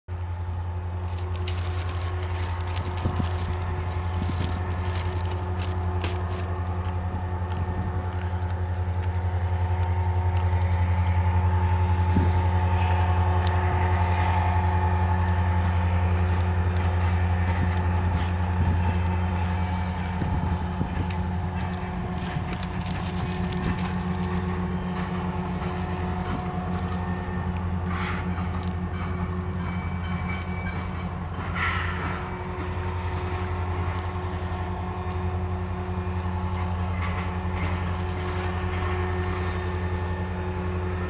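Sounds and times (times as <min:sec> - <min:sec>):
diesel locomotive drone: 0:00.0 - 0:41.0.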